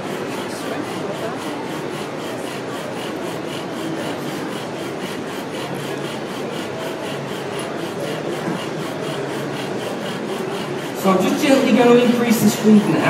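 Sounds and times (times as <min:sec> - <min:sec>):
bow drill rasping: 0:00.0 - 0:13.0.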